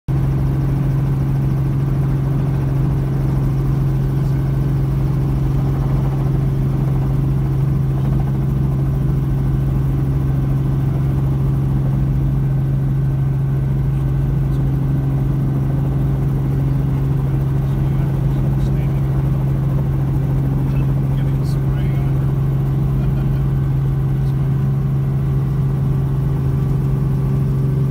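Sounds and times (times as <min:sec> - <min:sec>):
helicopter cabin hum: 0:00.1 - 0:27.9.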